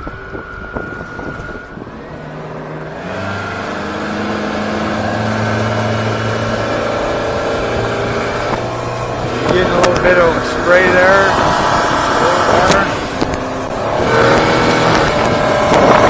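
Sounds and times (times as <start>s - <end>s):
high whine rising in pitch: 0.0s - 16.0s
outboard motor running: 0.0s - 16.0s.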